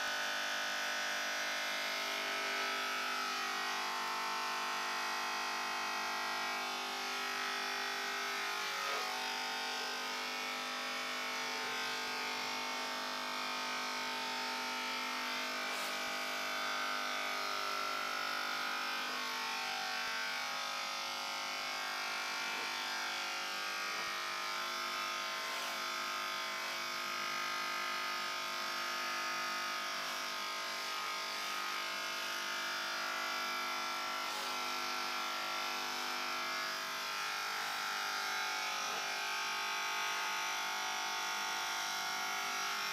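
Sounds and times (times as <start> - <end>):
electric hair clippers buzzing: 0.0 - 42.9.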